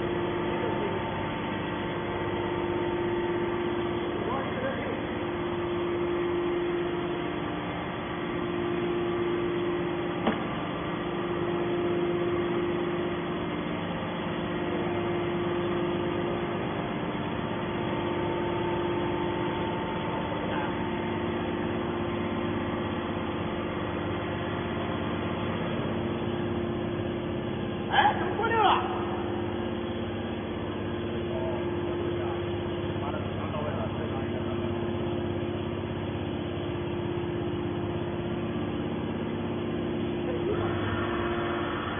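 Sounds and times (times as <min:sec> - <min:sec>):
hydraulic power unit humming: 0:00.0 - 0:41.9.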